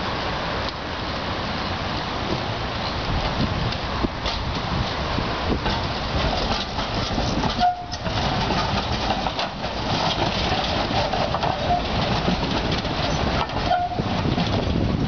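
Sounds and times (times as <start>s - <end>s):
tram wheels rolling and rattling: 0.0s - 15.0s.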